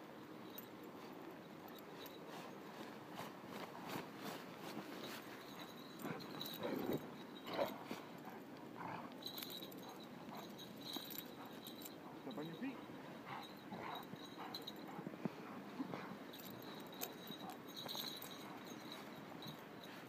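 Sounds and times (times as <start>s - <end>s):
feet and paws crunching snow: 0.6s - 20.0s.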